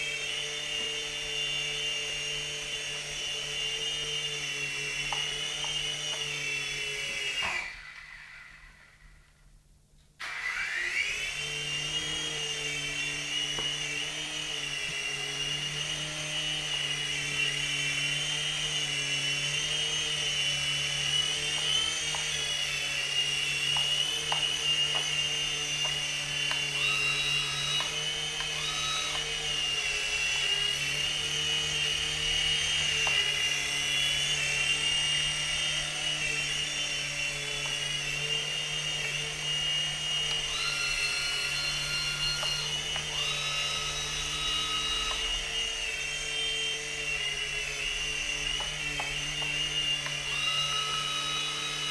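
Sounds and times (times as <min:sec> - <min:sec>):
rc helicopter rotor whine: 0:00.0 - 0:09.3, 0:10.2 - 0:51.9.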